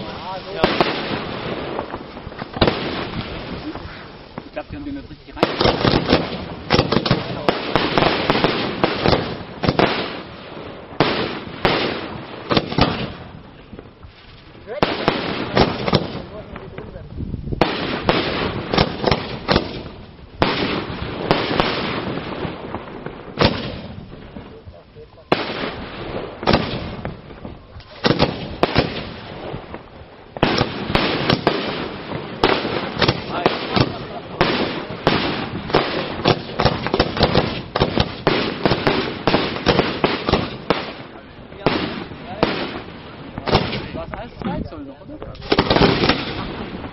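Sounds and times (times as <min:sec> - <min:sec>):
continuous rumble: 0:00.0 - 0:46.9
fireworks bursting with bangs: 0:00.0 - 0:46.9.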